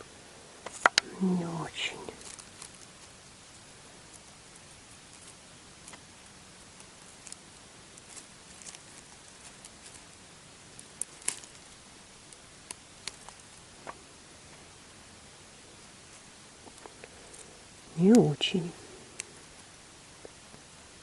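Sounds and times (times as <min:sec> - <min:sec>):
faint rustles: 0:00.0 - 0:21.0
steady hiss: 0:00.0 - 0:21.0.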